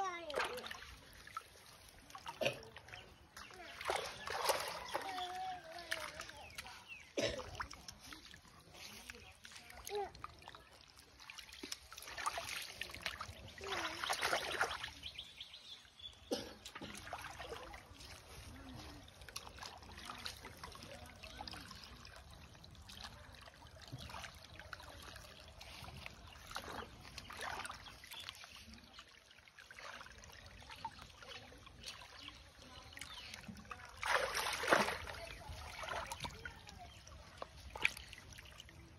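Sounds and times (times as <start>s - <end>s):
hands splashing in muddy water: 0.3s - 15.4s, 16.6s - 38.9s.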